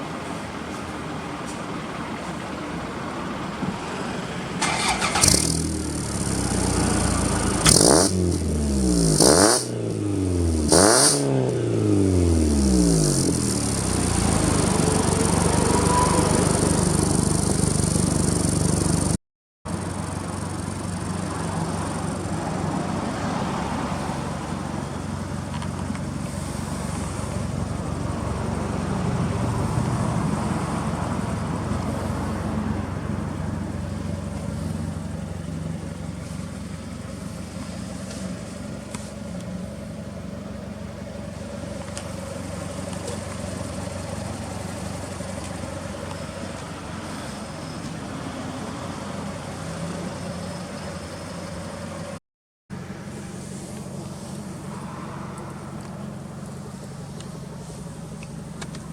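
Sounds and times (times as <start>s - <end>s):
car engine idling: 0.0s - 58.9s.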